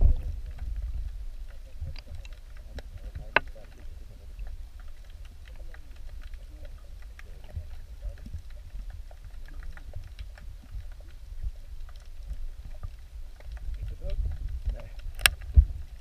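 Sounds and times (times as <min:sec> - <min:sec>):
sharp clicks and crackles: 0:00.0 - 0:16.0
underwater low rumble: 0:00.0 - 0:16.0.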